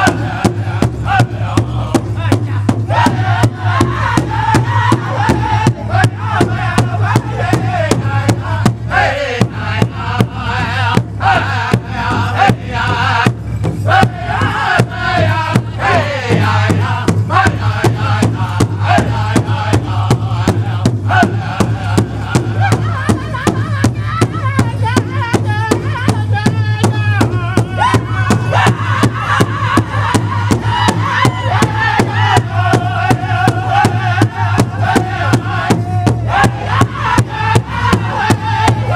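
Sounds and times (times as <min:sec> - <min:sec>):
large hide drum beating: 0:00.0 - 0:38.9
men singing together: 0:00.0 - 0:38.9.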